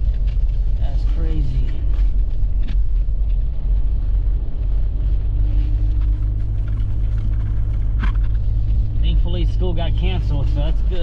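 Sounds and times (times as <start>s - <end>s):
vehicle driving rumble: 0.0s - 11.0s.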